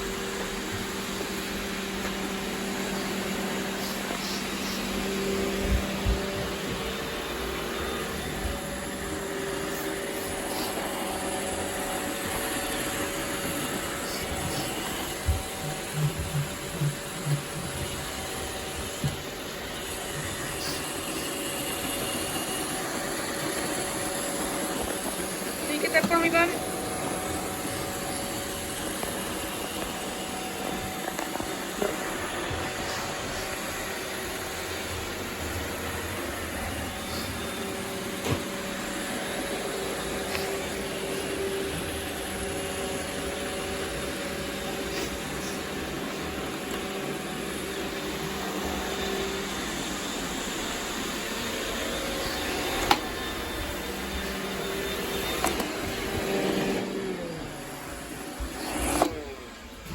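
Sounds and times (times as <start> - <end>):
robot vacuum cleaners whirring: 0.0 - 59.9.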